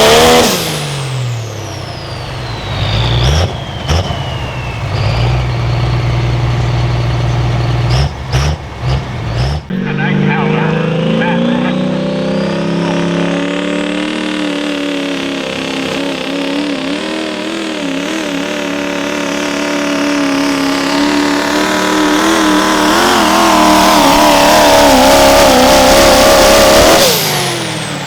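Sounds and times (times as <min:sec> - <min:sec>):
diesel truck engine at full power: 0:00.0 - 0:28.0.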